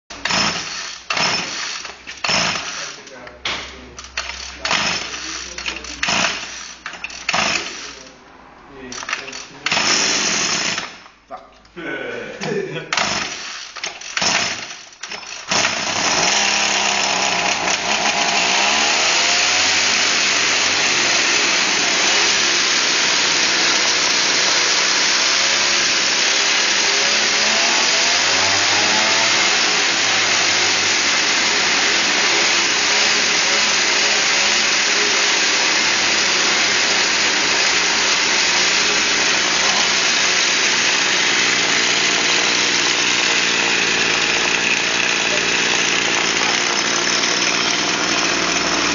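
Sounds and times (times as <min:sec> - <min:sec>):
chainsaw engine revving: 0:00.1 - 0:11.1, 0:12.8 - 0:48.9.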